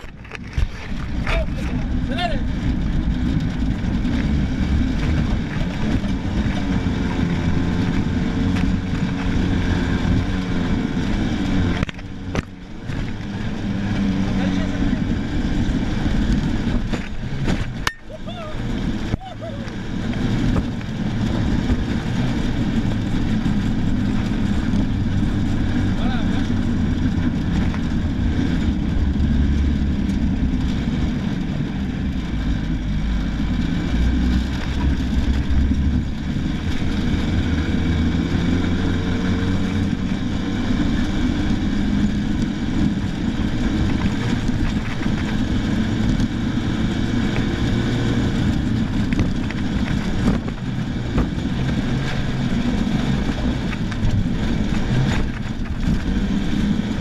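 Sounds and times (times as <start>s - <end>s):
rally car engine running hard: 0.0s - 57.0s
road and wind noise: 0.0s - 57.0s.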